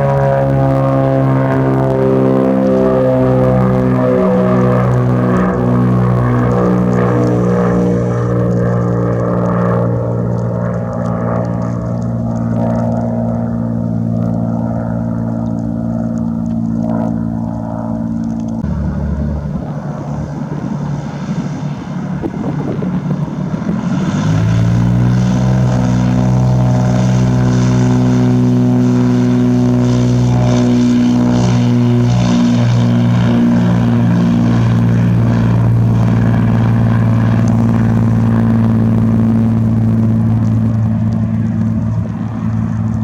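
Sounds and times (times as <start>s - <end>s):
propeller airplane engine drone: 0.0s - 43.0s.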